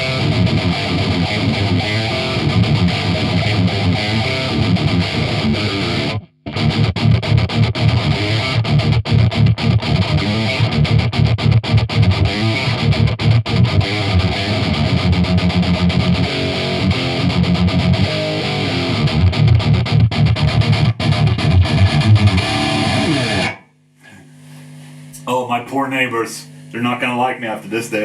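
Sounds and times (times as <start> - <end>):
distorted electric guitar metal riff: 0.0 - 23.6.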